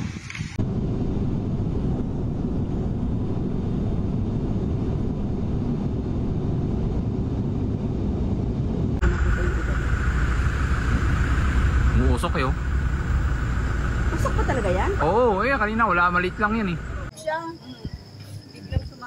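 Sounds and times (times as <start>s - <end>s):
airplane cabin rumble: 0.0s - 17.1s.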